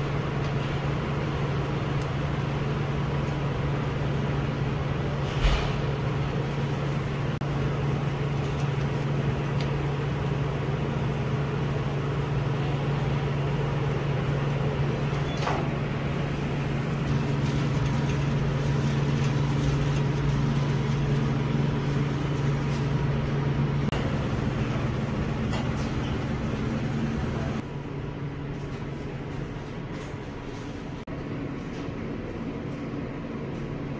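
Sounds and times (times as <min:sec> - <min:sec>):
low machine hum: 0:00.0 - 0:33.9.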